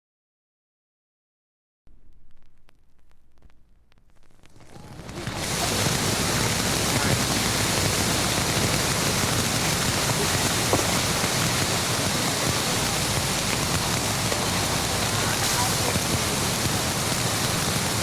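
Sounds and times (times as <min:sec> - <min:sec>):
dense steady rushing noise: 0:01.9 - 0:18.0.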